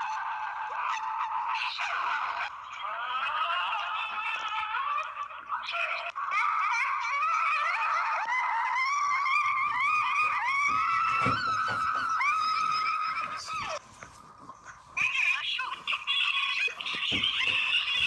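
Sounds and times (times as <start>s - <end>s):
high-pitched squeaky vocal sounds: 0.0s - 13.8s, 14.8s - 18.0s.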